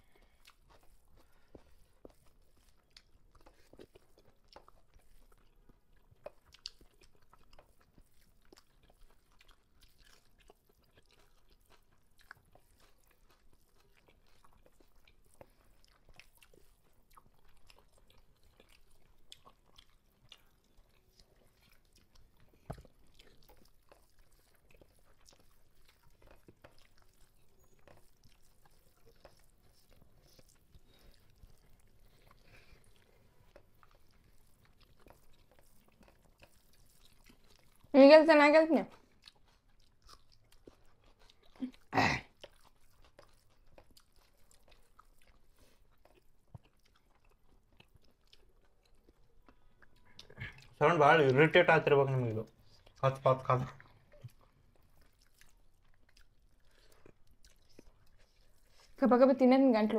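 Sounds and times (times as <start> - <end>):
chewing and mouth sounds: 0.0 - 59.9.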